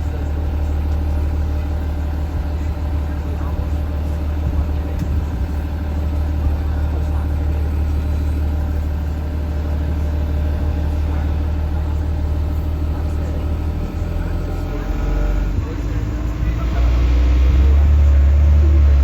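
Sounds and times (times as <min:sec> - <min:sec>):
diesel bus engine droning: 0:00.0 - 0:19.0.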